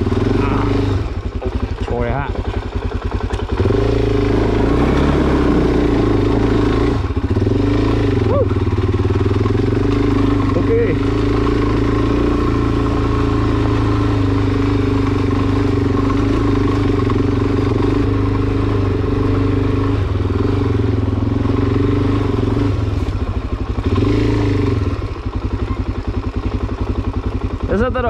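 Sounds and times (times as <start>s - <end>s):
motorcycle engine pulling: 0.0s - 28.0s.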